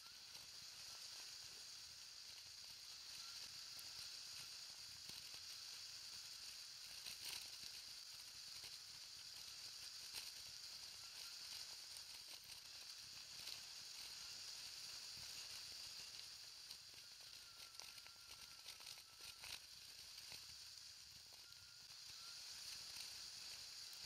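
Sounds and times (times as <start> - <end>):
high hiss of tyres and air: 0.0 - 24.0
thin faint whine: 0.0 - 24.0
small clicks from bumps: 0.3 - 24.0.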